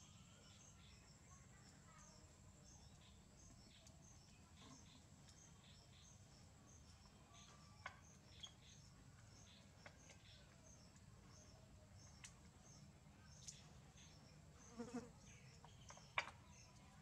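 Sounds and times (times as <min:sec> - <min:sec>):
faint insect chirping: 0:00.0 - 0:17.0.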